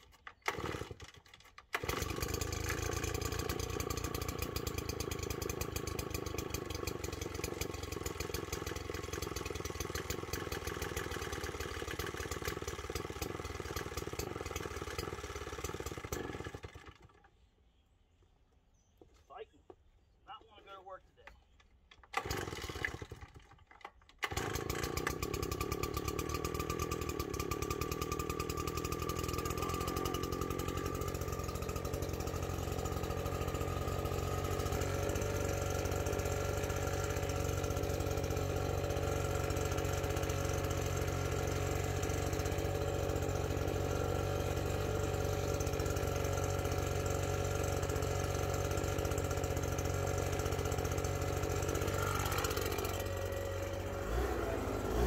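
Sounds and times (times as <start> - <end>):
engine starting and idling: 0.1 - 17.2, 22.0 - 55.0.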